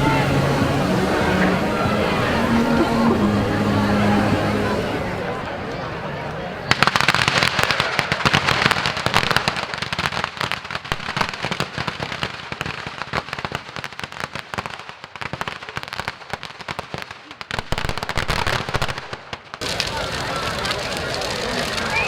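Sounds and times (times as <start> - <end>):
fireworks crackling: 0.0 - 5.6, 6.6 - 22.0.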